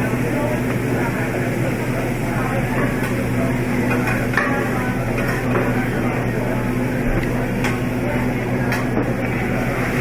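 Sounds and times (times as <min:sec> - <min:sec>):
restaurant din: 0:00.0 - 0:10.0.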